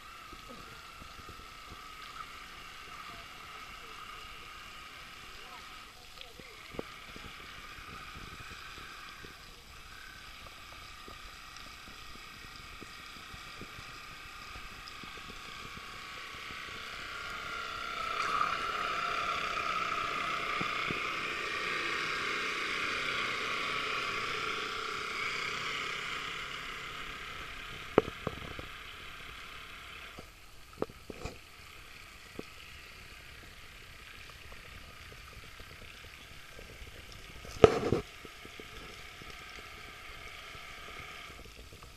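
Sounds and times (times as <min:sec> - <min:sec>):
model boat motor whining: 0:00.0 - 0:41.9.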